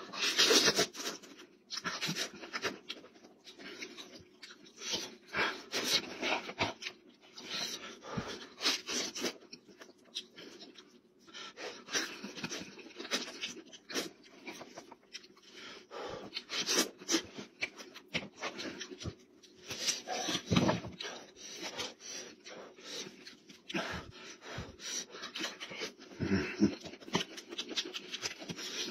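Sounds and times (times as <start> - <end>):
wet chewing and smacking: 0.1 - 28.9.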